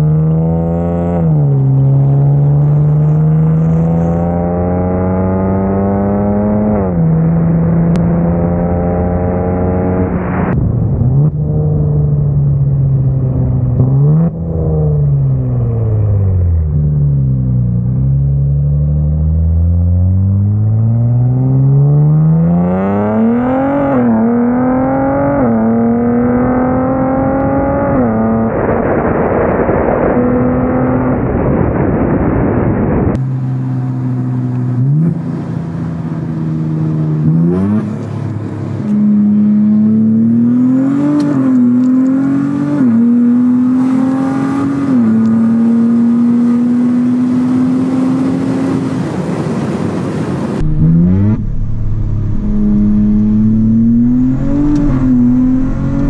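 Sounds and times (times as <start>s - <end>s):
car engine accelerating and upshifting: 0.0s - 28.7s, 33.1s - 56.0s.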